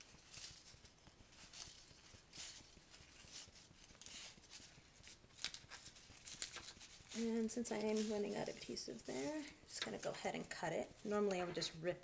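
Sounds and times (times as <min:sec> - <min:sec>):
paper streamer rustling: 0:00.0 - 0:12.0.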